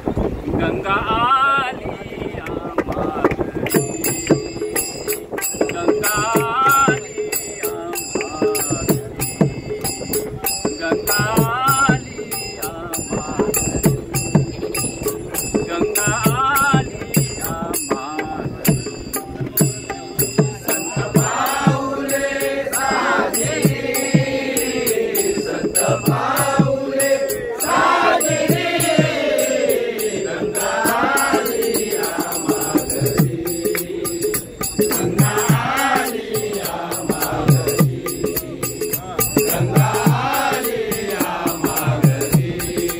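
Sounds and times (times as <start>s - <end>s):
group of men singing: 0.6s - 42.9s
small hand cymbals: 3.7s - 42.9s.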